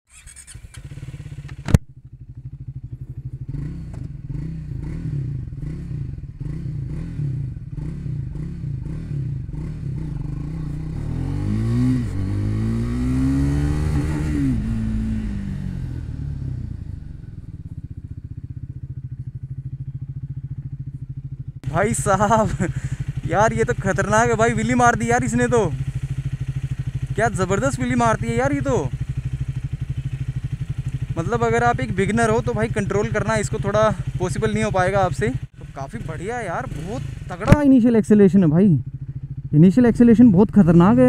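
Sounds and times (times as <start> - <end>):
motorcycle engine revving: 0.1 - 41.0.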